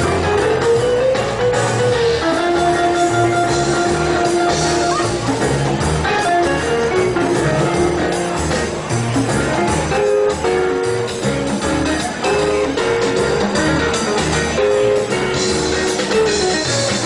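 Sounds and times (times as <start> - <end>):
guitar music with bass line: 0.0 - 17.0.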